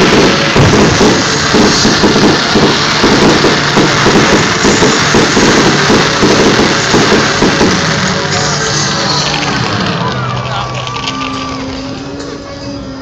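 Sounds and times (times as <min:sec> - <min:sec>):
fireworks rumbling and crackling: 0:00.0 - 0:13.0.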